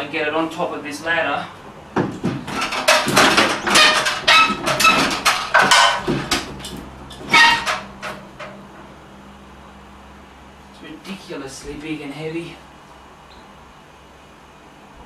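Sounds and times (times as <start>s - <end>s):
air conditioner scraping and clanking: 0.0s - 12.7s.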